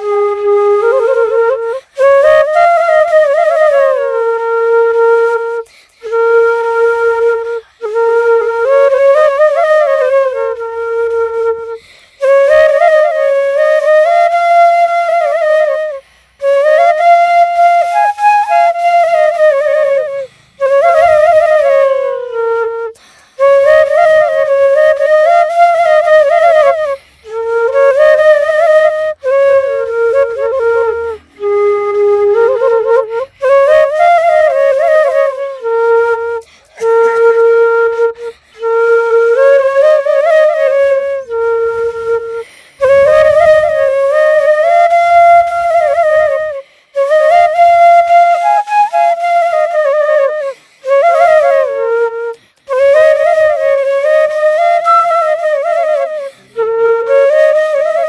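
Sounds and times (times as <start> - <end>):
flute melody: 0.0 - 58.0.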